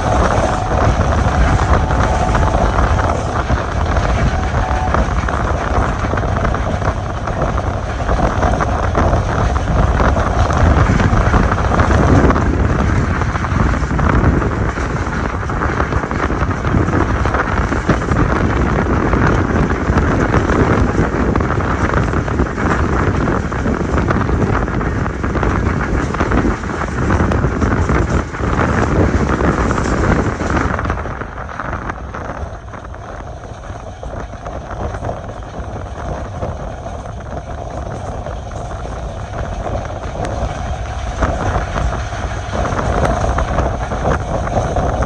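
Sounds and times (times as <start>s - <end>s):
air rushing past microphone: 0.0s - 45.0s
train wheels on rails: 0.0s - 45.0s.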